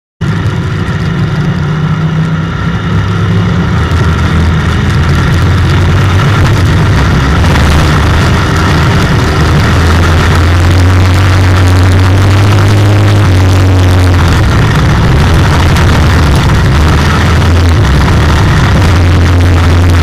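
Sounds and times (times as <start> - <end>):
race car engine under load: 0.2 - 20.0
steady rush of noise: 0.2 - 20.0.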